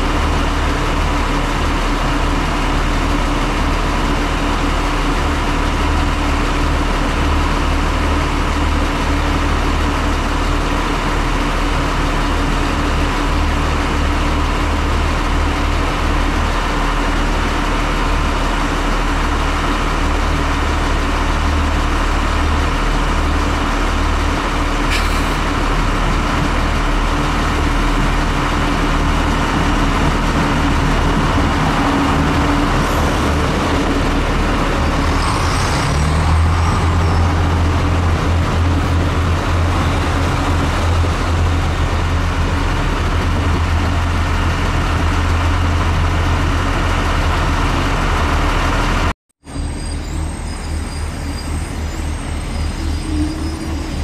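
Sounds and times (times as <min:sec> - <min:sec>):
diesel train engine drone: 0:00.0 - 0:54.0.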